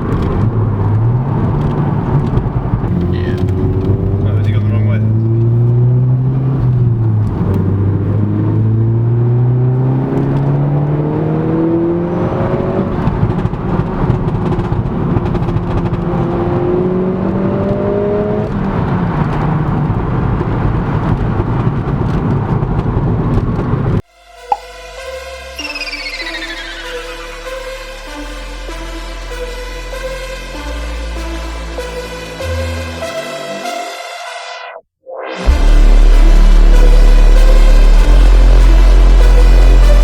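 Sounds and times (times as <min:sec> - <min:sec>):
car engine accelerating through gears: 0:00.0 - 0:24.0, 0:25.6 - 0:33.6, 0:35.4 - 0:40.0.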